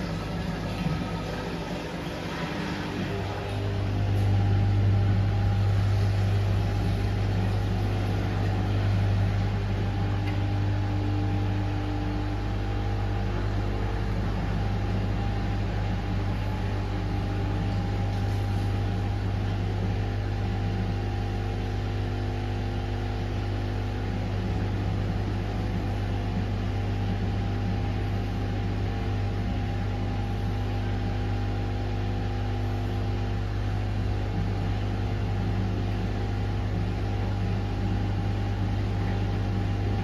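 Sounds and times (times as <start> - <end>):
washing machine humming: 0.0 - 40.0.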